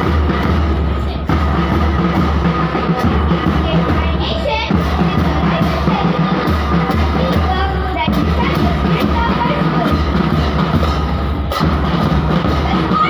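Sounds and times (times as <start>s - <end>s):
bass drum beat: 0.0s - 13.0s
cymbals: 0.0s - 13.0s.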